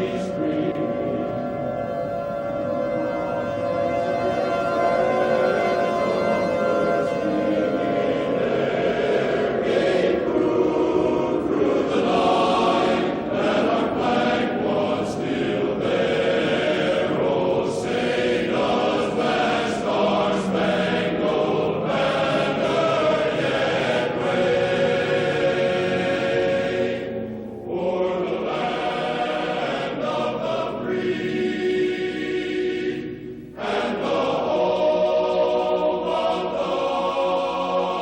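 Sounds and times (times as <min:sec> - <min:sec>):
choir singing held notes: 0:00.0 - 0:38.0.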